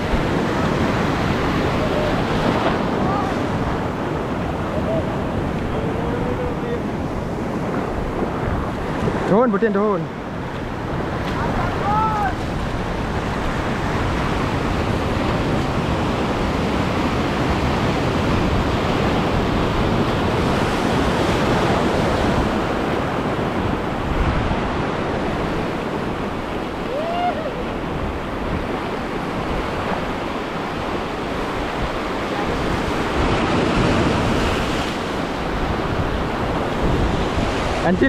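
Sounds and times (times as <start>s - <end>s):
surf washing over reef: 0.0s - 38.0s
wind buffeting microphone: 0.0s - 38.0s.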